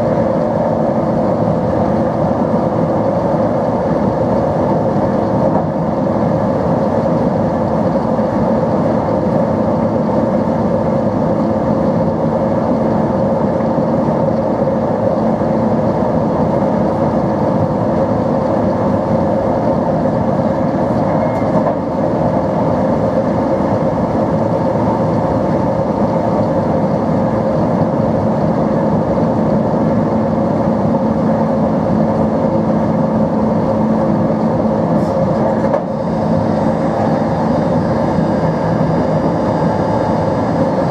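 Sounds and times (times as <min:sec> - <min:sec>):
rail noise: 0:00.0 - 0:40.9
train motor hum: 0:00.0 - 0:40.9.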